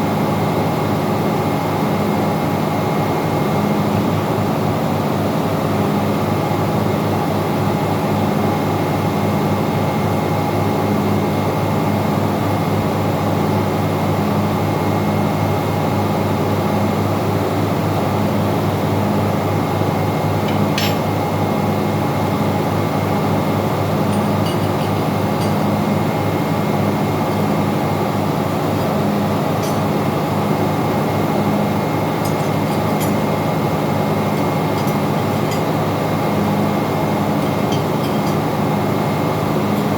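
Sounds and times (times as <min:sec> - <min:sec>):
engine-room machinery running: 0:00.0 - 0:39.9.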